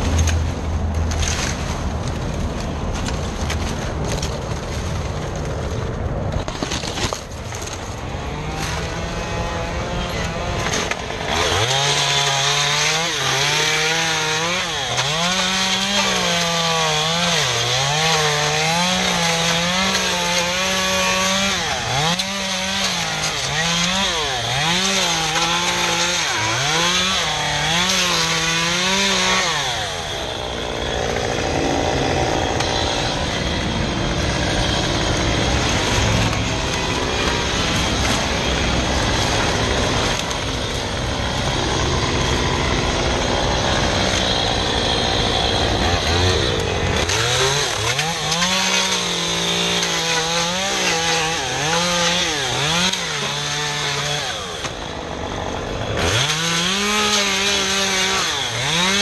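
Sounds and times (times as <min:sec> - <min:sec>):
chainsaw revving and cutting: 0:06.6 - 0:59.0.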